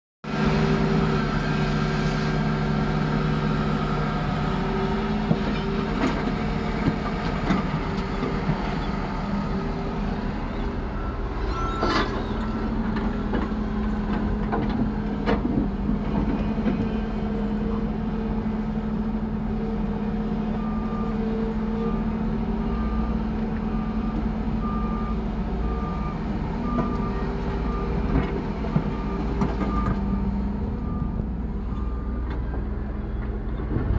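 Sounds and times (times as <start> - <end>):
heavy diesel engines running: 0.3 - 33.9.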